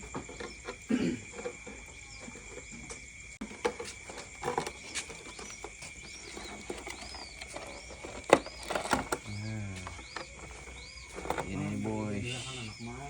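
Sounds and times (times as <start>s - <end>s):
knocks and rustles: 0.0s - 11.9s
insect drone: 0.0s - 13.0s.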